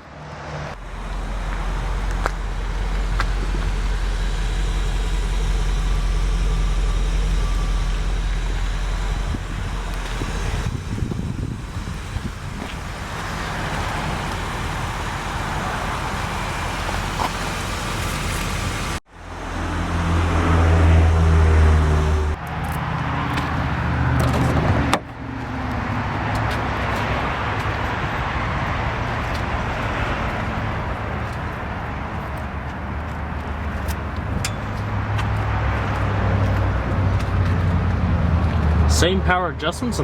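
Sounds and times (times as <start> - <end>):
heavy vehicle engine: 0.0 - 40.0
passing cars: 0.0 - 40.0.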